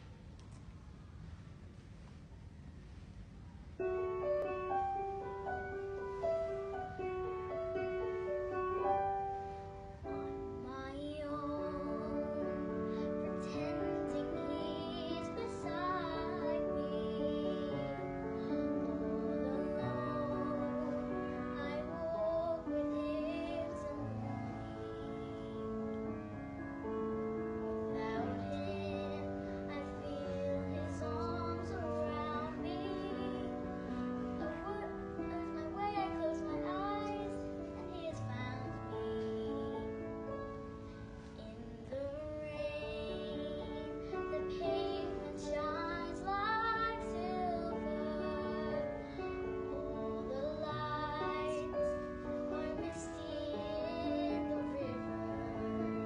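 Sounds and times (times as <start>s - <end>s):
piano accompaniment: 3.6s - 56.0s
girl singing: 3.9s - 56.0s.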